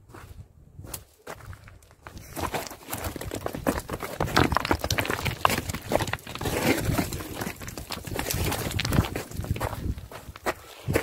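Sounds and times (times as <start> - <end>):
footsteps crunching on gravel: 0.1 - 11.0.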